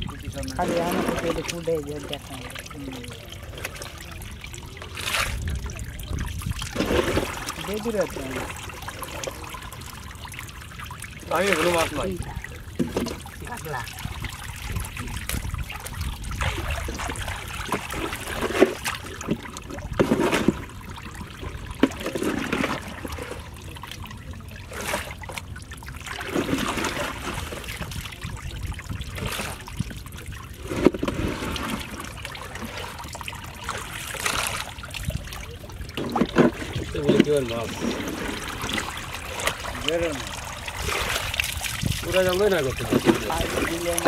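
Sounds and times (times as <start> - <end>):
water trickling and splashing: 0.0 - 44.0
wet fish slapping and knocking: 0.3 - 10.0, 11.2 - 23.5, 24.7 - 28.3, 29.1 - 44.0.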